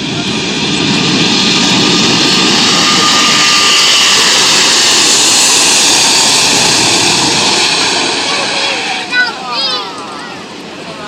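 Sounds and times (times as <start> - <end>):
faint engine whine: 0.0 - 11.0
jet engines roaring: 0.0 - 11.0.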